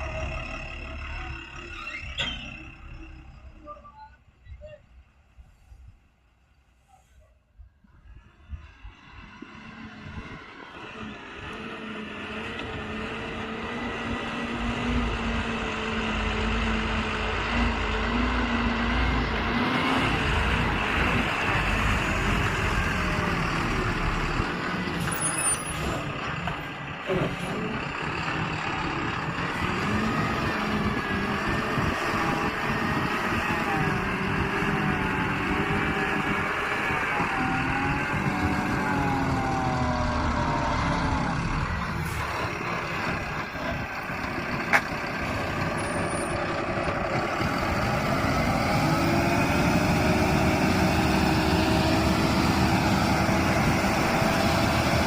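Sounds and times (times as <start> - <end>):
heavy diesel engine revving: 8.9 - 55.0.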